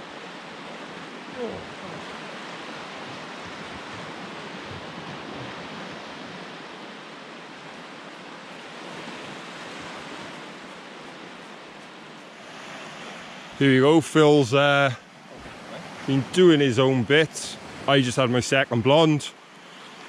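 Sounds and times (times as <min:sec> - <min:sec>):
surf washing on sandy shore: 0:00.0 - 0:20.0.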